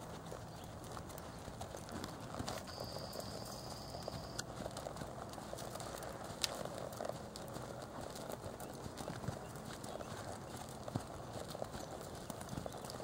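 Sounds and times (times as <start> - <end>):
horse hoofbeats on dirt: 0.0 - 13.0.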